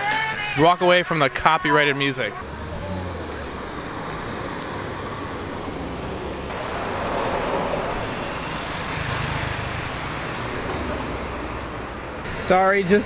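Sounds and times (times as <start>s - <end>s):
cars passing: 0.0s - 13.0s
scooter passing: 1.7s - 12.4s.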